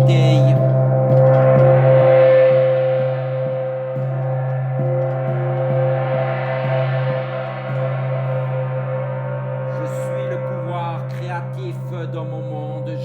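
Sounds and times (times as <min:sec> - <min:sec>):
soft mallet strokes on gong: 0:00.0 - 0:11.2
gong ringing: 0:00.0 - 0:13.0.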